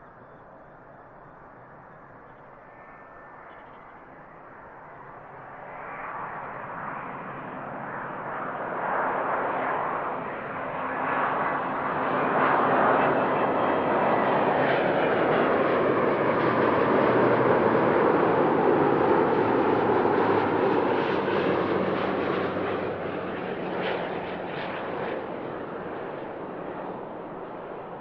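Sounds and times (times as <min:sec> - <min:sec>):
jet aircraft engine approaching: 0:00.0 - 0:28.0.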